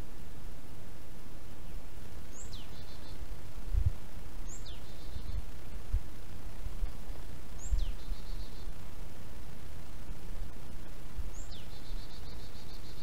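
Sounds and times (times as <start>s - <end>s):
songbird singing: 0.0s - 13.0s
steady hiss: 0.0s - 13.0s.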